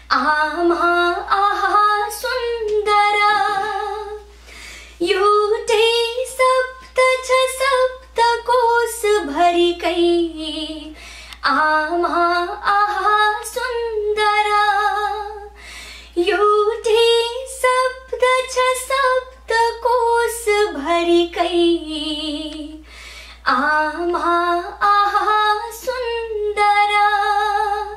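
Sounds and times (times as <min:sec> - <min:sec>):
woman singing slow song: 0:00.0 - 0:27.9.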